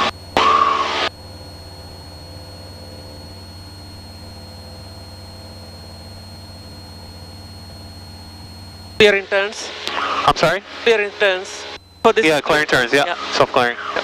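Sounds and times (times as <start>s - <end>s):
aircraft engine and propeller drone: 0.0s - 14.0s
faint high whine: 0.0s - 14.0s.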